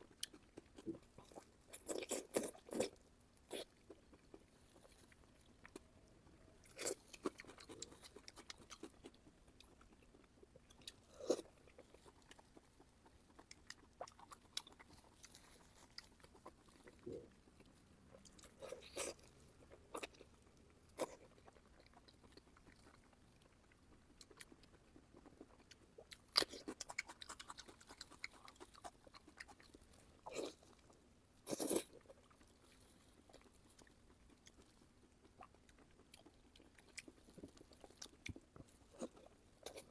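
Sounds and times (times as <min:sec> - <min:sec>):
person chewing and biting: 0:00.0 - 0:05.8, 0:06.6 - 0:30.8, 0:31.4 - 0:39.9.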